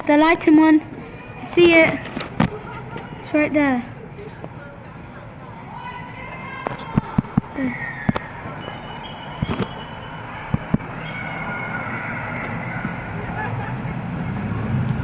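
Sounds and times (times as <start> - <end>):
outdoor rumble: 0.0 - 15.0.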